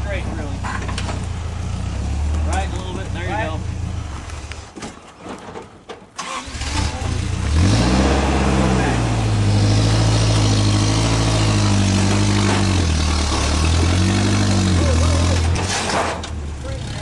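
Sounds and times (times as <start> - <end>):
buggy engine revving: 0.0 - 4.8, 6.2 - 17.0.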